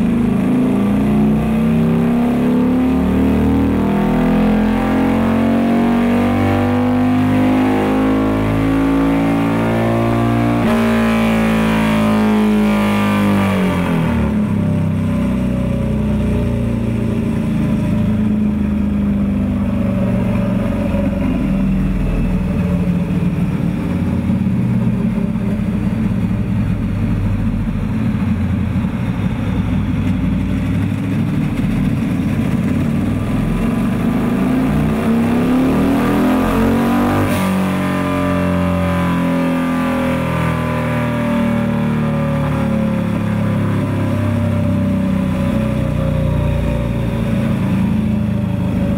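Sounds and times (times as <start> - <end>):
motorcycle engine revving under load: 0.0 - 48.9.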